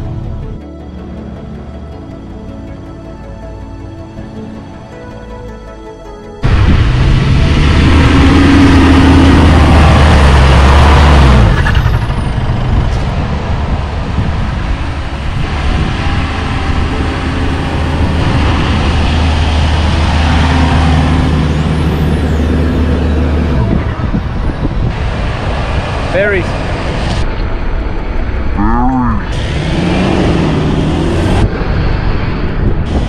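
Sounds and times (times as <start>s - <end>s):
four-wheel-drive engines revving: 6.4s - 33.0s
steady rushing noise: 6.4s - 33.0s.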